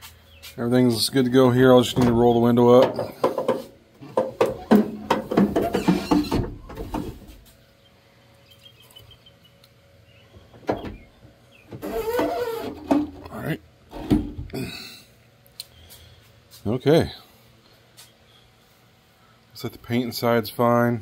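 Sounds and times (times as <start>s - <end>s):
faint hum: 0.1s - 21.0s.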